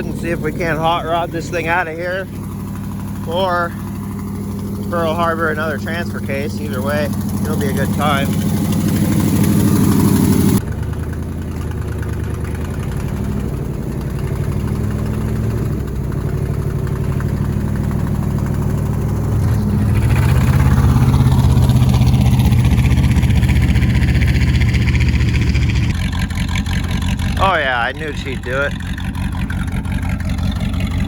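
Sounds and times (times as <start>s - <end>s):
pickup truck engine under load: 0.0s - 31.0s.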